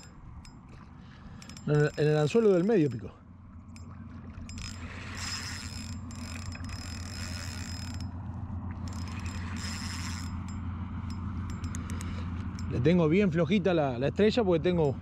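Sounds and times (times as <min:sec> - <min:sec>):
fishing reel clicking and whirring: 0:00.0 - 0:03.1, 0:03.7 - 0:12.9.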